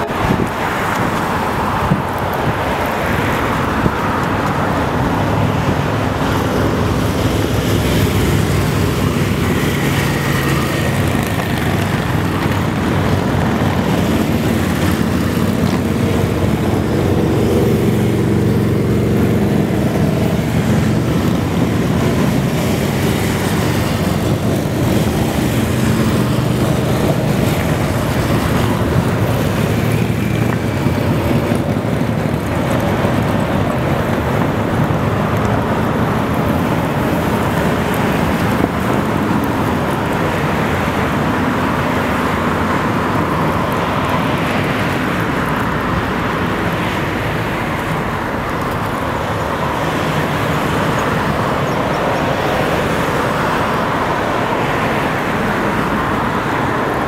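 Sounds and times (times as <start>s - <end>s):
cars passing with tyre noise: 0.0s - 57.0s
motorcycle engines passing: 0.0s - 57.0s.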